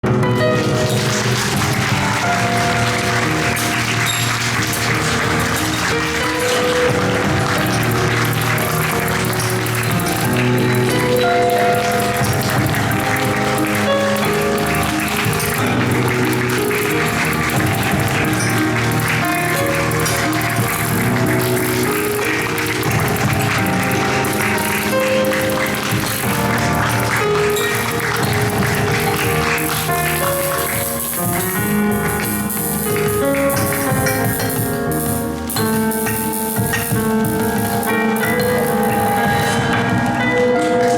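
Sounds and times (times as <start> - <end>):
audience applauding: 0.0 - 40.9
live stage music: 0.0 - 40.9.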